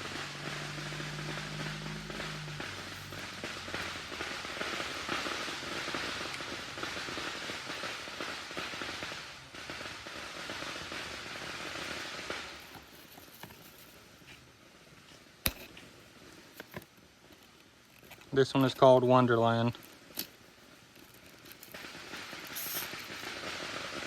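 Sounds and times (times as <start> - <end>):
firework crackling: 0.0 - 24.0.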